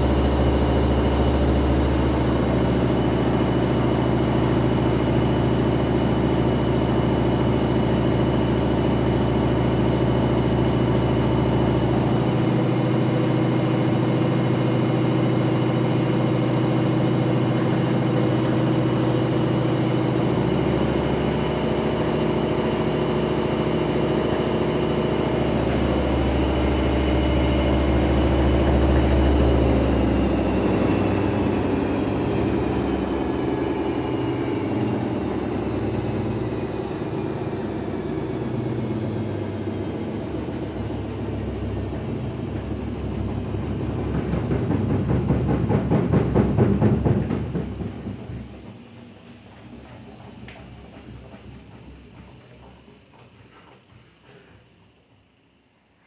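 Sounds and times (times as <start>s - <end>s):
washing machine motor whine: 0.0s - 54.0s.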